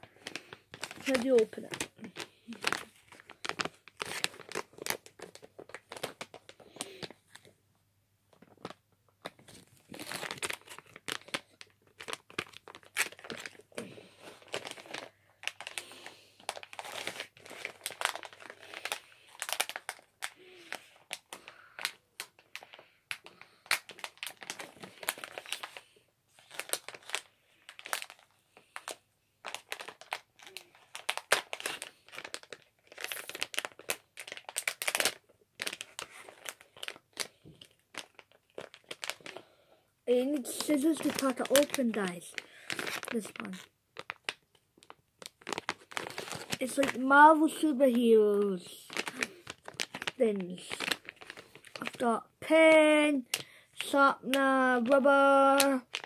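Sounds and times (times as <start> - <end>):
plastic packaging crackling: 0.0 - 7.5, 8.3 - 56.0.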